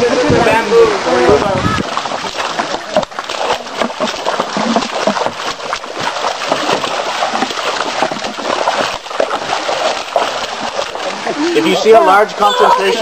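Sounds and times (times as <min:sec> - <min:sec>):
footsteps splashing in water: 0:00.0 - 0:13.0.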